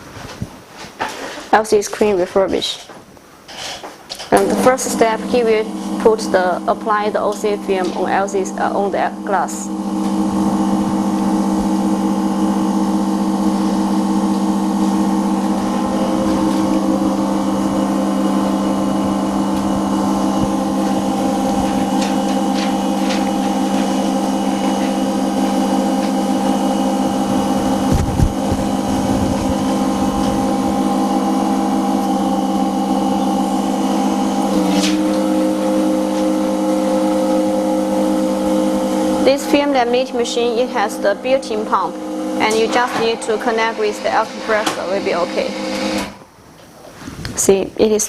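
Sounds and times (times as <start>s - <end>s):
machine motor humming: 4.1s - 46.8s.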